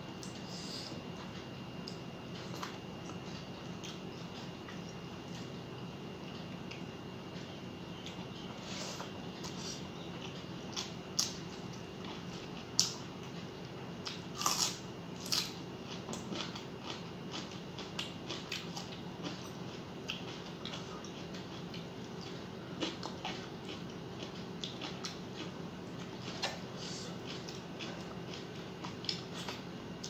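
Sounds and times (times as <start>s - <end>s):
faint steady hum: 0.0s - 30.0s
person chewing food: 0.2s - 5.6s, 6.2s - 30.0s.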